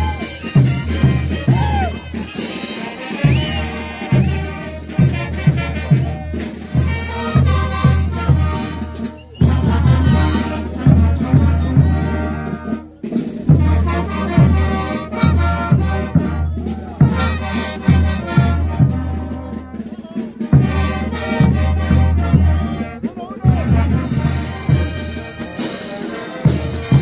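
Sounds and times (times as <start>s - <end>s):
bass drum beat: 0.0s - 2.4s, 3.2s - 12.7s, 13.4s - 19.8s, 20.5s - 25.6s
brass band horns: 0.0s - 27.0s.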